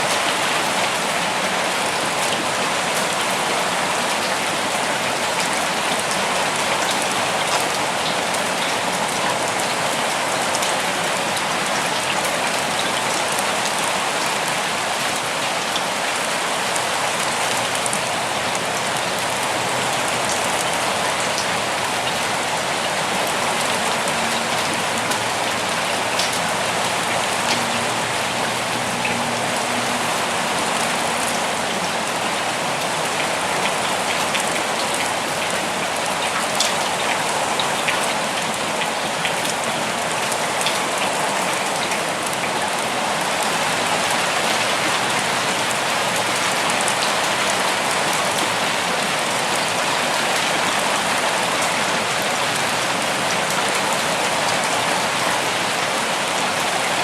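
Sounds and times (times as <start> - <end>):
raindrops ticking on surfaces: 0.0 - 57.0.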